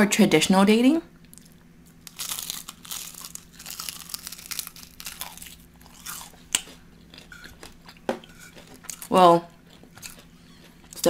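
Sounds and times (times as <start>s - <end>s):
crunching and chewing: 1.2s - 11.0s.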